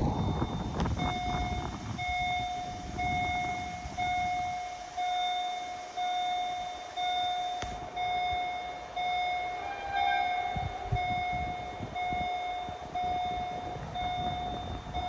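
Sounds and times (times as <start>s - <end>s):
level crossing bell ringing: 0.2s - 15.0s.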